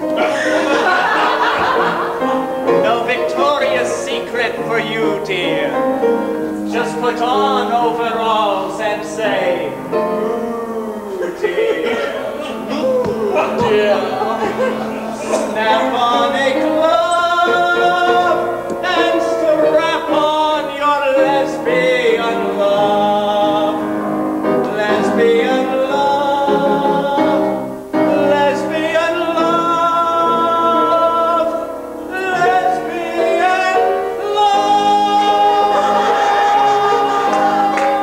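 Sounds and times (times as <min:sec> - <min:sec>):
two voices singing duet: 0:00.0 - 0:05.9, 0:06.6 - 0:38.0
piano accompaniment: 0:00.0 - 0:38.0.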